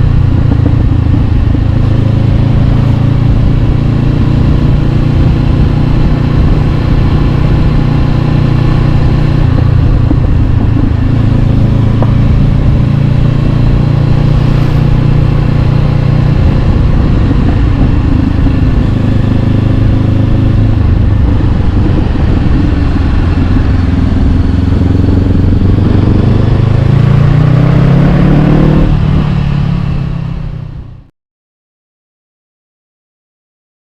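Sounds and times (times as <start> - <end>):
motorcycle engine revving: 0.0 - 31.1.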